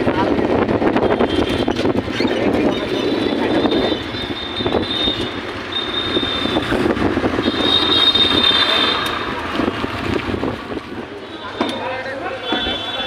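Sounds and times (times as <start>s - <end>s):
loud traffic din: 0.0s - 13.0s.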